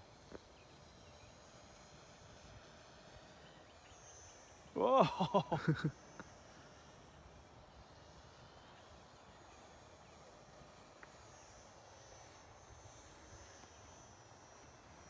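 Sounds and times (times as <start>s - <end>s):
faint steady high whine: 0.0s - 15.0s.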